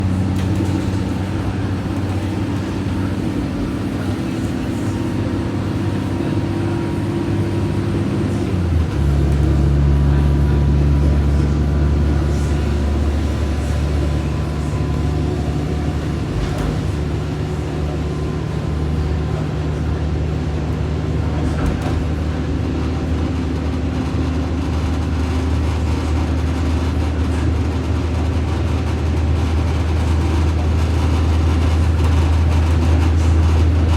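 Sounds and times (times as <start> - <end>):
diesel train engine droning: 0.0 - 33.9.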